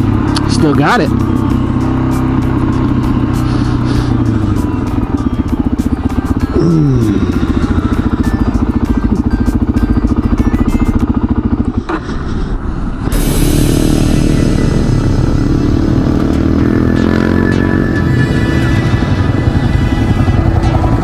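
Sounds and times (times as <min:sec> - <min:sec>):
motorcycle engine chugging: 0:00.0 - 0:21.0.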